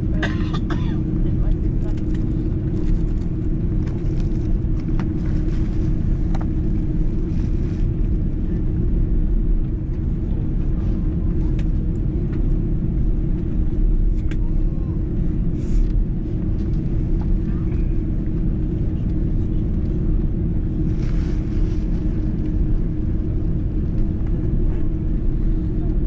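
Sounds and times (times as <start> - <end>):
constant hum: 0.0 - 26.0
jet engines idling rumble: 0.0 - 26.0.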